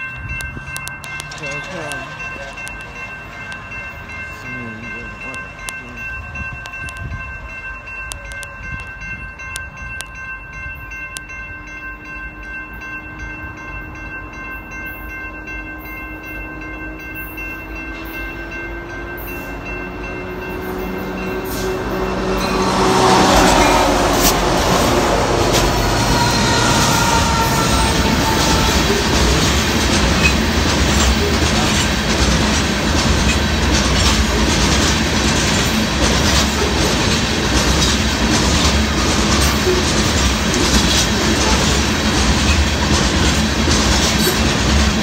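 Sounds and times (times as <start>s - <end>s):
crossing signal bell ringing: 0.0s - 45.0s
freight train approaching: 0.0s - 45.0s.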